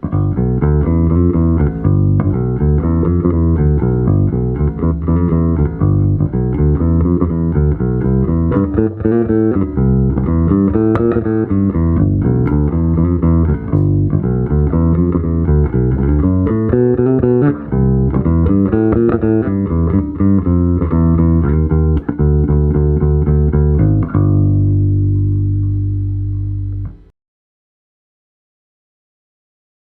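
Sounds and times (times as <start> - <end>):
electric bass guitar plucked notes: 0.0 - 27.1.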